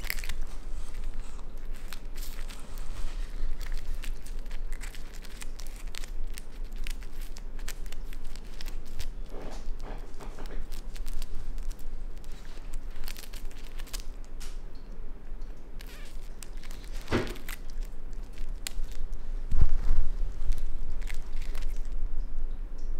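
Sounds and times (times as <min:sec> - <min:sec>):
raccoon chewing crunchy shell: 0:00.0 - 0:14.7, 0:15.5 - 0:22.2.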